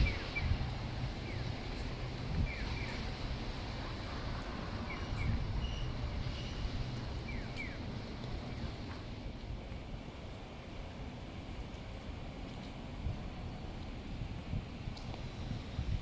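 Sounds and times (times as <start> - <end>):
low hum of traffic: 0.0 - 16.0.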